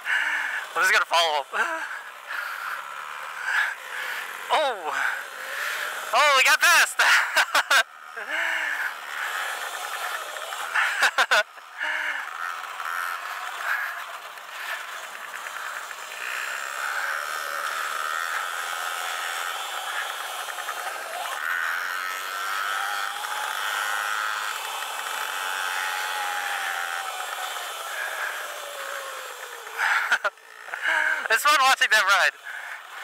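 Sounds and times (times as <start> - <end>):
electric motor whine: 0.0 - 33.0.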